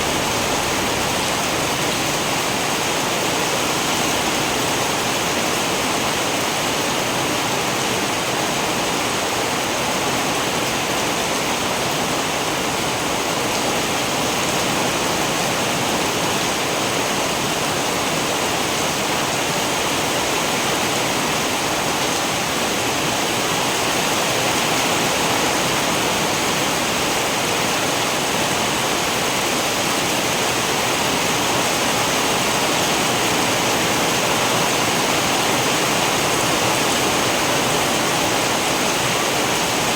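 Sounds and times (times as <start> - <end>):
heavy rainfall hiss: 0.0 - 39.9.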